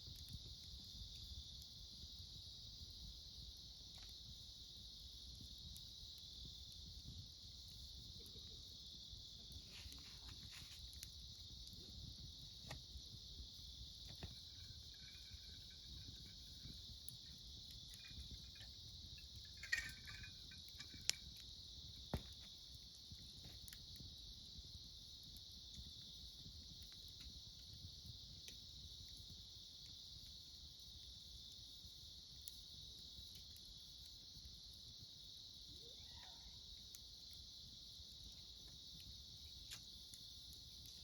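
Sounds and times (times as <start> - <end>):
crickets chirring: 0.0 - 41.0
wood fire crackling pops: 0.0 - 41.0.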